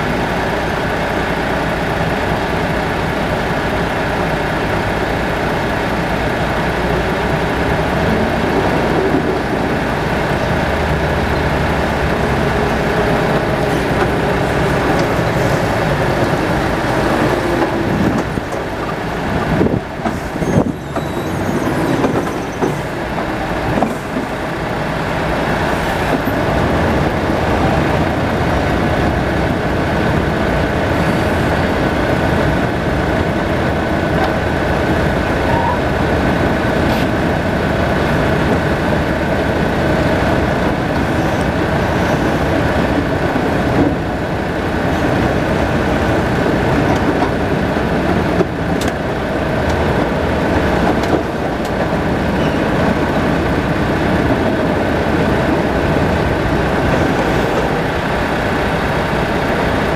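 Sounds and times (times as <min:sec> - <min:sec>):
forklift engine running: 0:00.0 - 0:59.9.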